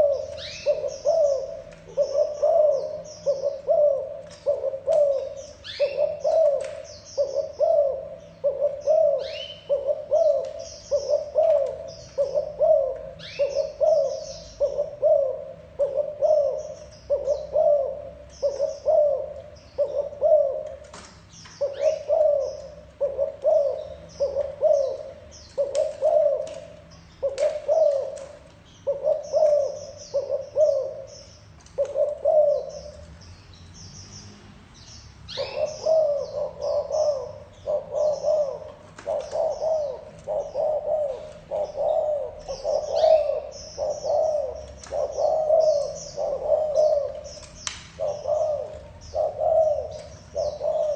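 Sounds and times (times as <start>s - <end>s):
dove cooing: 0.0s - 33.2s, 35.3s - 50.9s
small birds chirping: 0.0s - 50.9s.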